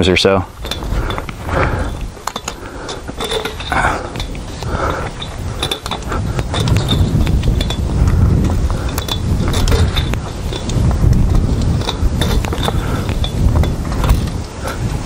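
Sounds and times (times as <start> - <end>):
barbed wire scraping and creaking: 0.0 - 15.0
small metallic clicks: 0.6 - 7.8, 8.7 - 14.9.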